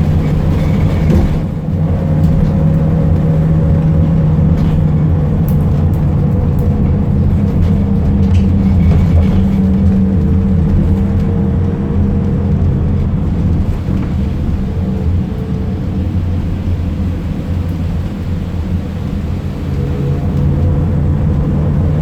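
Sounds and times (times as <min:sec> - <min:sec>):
diesel engine droning: 0:00.0 - 0:22.0
road noise: 0:00.0 - 0:22.0.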